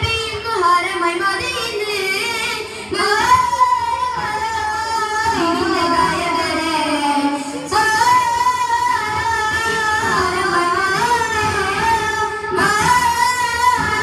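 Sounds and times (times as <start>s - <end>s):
boys singing into microphones: 0.0s - 14.0s.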